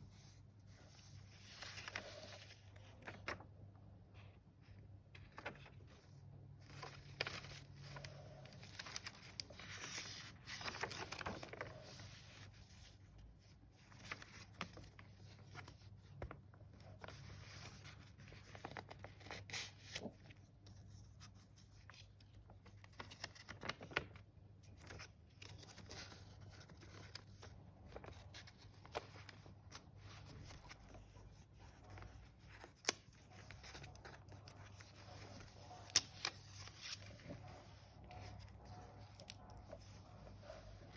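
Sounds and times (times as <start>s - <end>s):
paper pages rustling: 0.2s - 40.9s.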